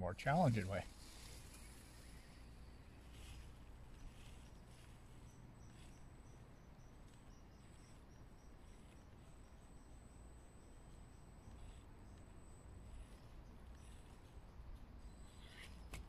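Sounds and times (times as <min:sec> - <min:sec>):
faint high chirp: 0:01.0 - 0:16.0.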